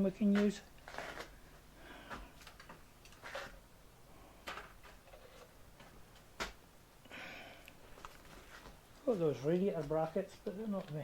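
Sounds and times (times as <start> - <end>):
rustling: 0.3 - 6.6, 7.9 - 11.0.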